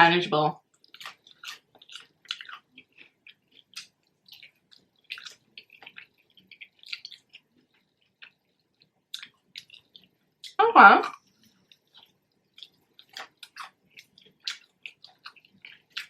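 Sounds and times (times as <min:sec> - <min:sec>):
crunchy chewing: 0:00.6 - 0:10.6, 0:11.2 - 0:16.0.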